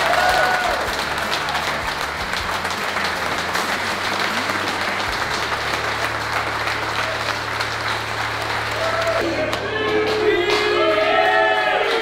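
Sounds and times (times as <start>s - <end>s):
crowd clapping: 0.0s - 12.0s.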